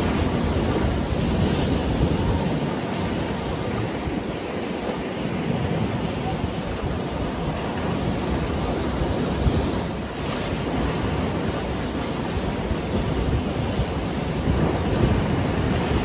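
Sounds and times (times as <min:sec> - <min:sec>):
surf breaking on rocky shore: 0:00.0 - 0:16.0
wind buffeting microphone: 0:00.0 - 0:16.0.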